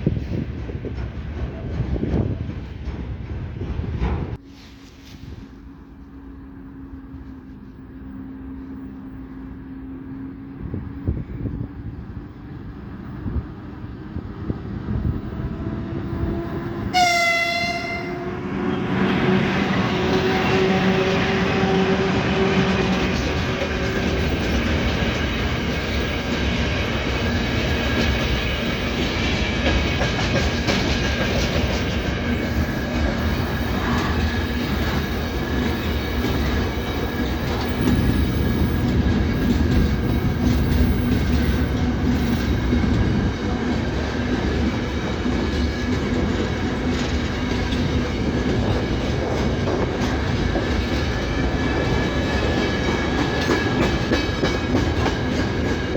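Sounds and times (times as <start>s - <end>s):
train wheels on rails: 0.0s - 55.9s.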